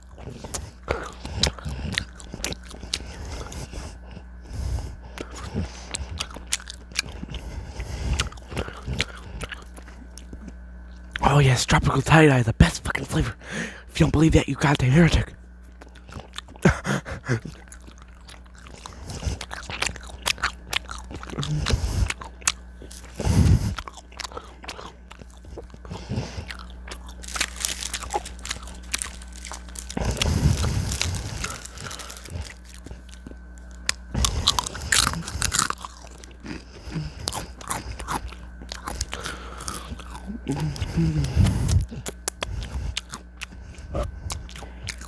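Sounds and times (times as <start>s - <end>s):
person chewing and biting: 0.0s - 11.4s, 14.1s - 45.0s.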